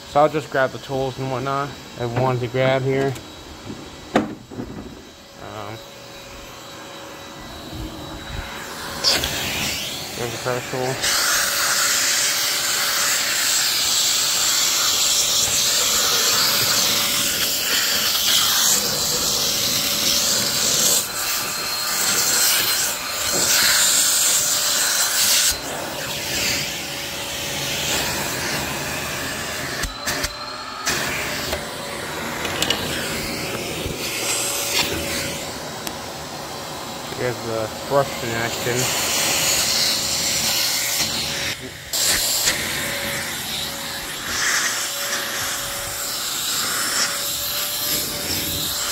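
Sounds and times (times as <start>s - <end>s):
faint vacuum whine: 0.0s - 48.9s
vacuum air rushing through hose: 0.0s - 48.9s.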